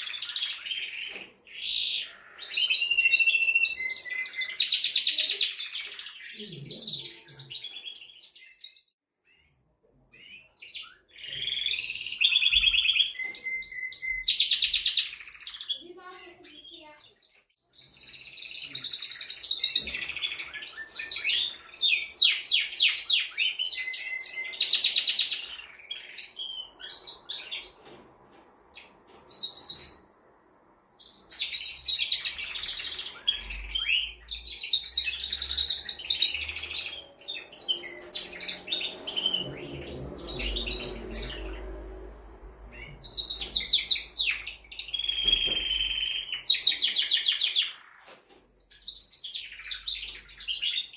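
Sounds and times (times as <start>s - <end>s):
canary singing trills: 0.0s - 27.8s, 28.7s - 30.1s, 30.9s - 50.9s.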